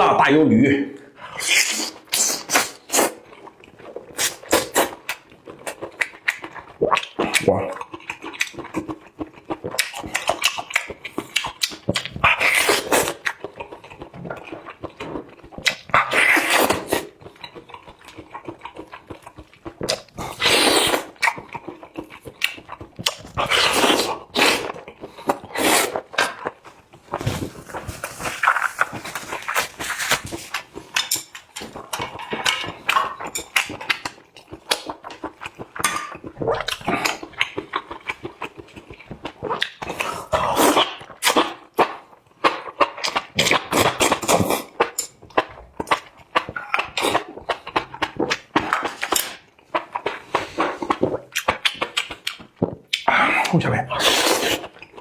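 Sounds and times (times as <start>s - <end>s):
wet chewing and slurping: 1.2s - 55.0s.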